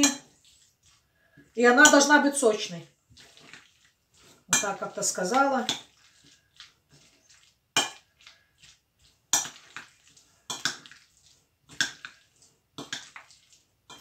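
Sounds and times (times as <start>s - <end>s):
spoon scraping bowl: 0.0s - 14.0s
spoon stirring in glass bowl: 0.0s - 14.0s.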